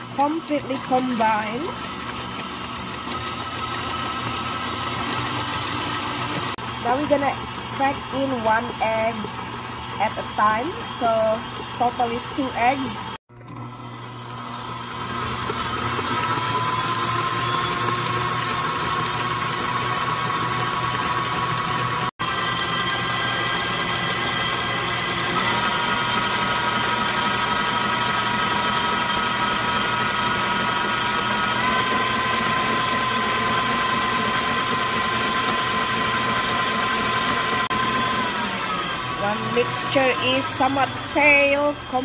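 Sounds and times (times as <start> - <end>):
electric mixer motor whining: 0.0 - 42.0.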